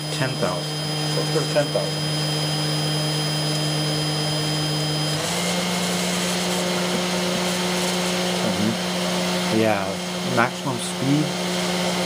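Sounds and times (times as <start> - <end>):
spindle motor humming: 0.0 - 12.0.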